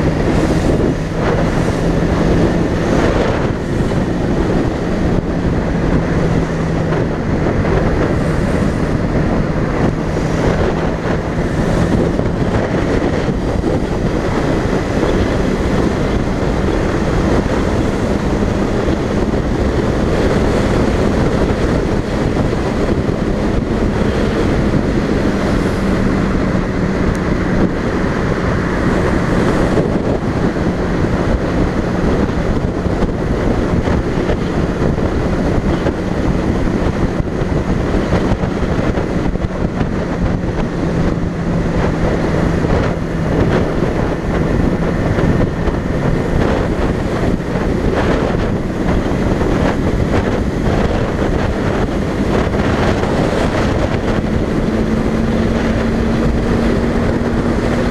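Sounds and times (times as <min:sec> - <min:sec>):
motorcycle engine hum: 0:00.0 - 0:57.9
wind rushing over microphone: 0:00.0 - 0:57.9.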